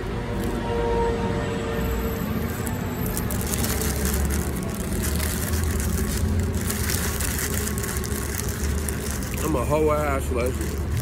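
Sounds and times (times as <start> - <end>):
paper wrapper crinkling: 0.0 - 0.6, 1.9 - 11.0.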